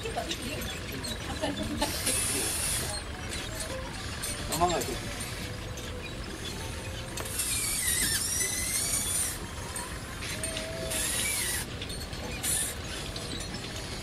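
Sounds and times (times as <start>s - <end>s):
model excavator motors whining: 0.0s - 14.0s.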